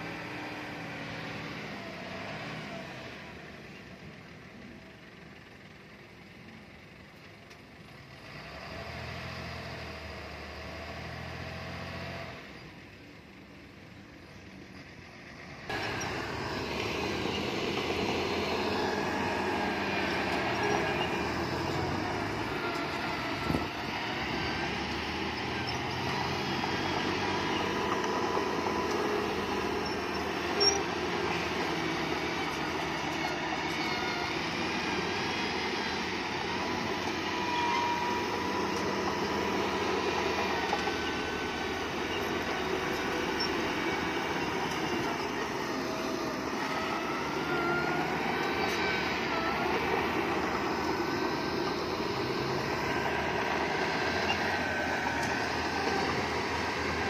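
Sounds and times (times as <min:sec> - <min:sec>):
tracks grinding and squealing: 0:00.0 - 0:04.0, 0:14.2 - 0:57.0
diesel engine hum: 0:00.0 - 0:57.0.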